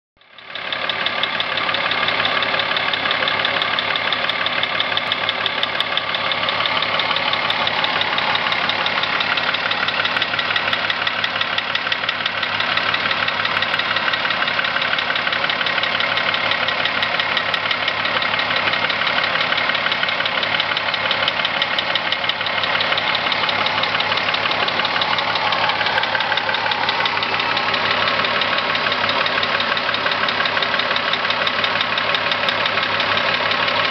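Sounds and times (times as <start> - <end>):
car engine running: 0.2 - 33.9
fast engine knocking: 0.2 - 33.9.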